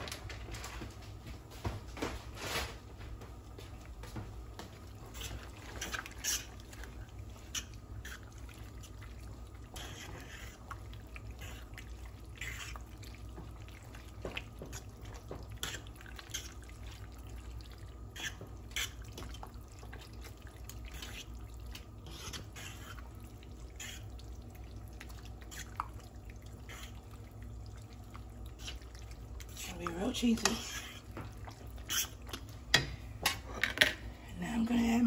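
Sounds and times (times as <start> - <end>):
low steady hum: 0.0 - 35.0
wet squelches of stirred pasta: 0.0 - 35.0.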